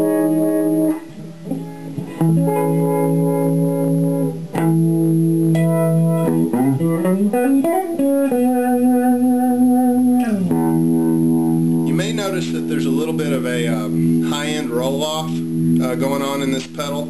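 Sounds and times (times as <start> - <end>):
electric guitar chords with vibe effect: 0.0 - 17.0.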